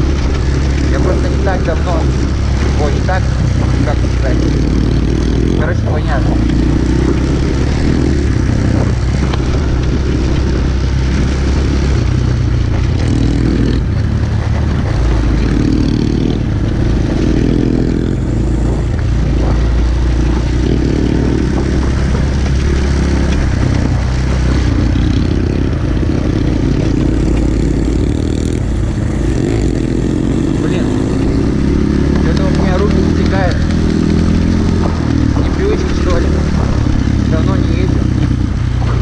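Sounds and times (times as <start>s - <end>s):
motorbike engine revving: 0.0s - 39.0s.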